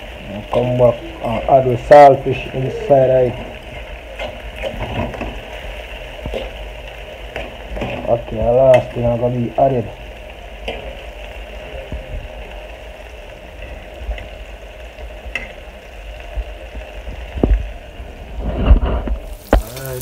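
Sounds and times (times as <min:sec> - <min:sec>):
vegetables sizzling in a pot: 0:00.0 - 0:20.0.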